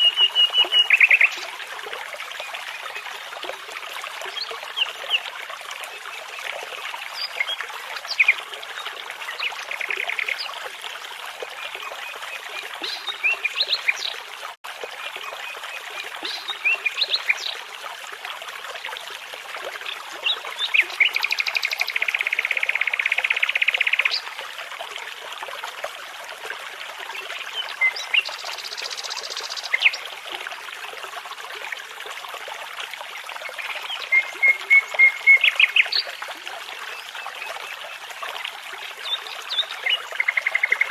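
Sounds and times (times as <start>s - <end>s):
babbling brook: 0.0s - 40.9s.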